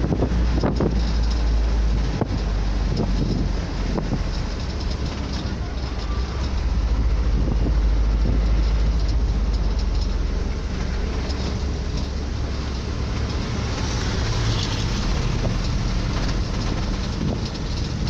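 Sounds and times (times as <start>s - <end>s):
road vehicle rumble: 0.0s - 18.0s.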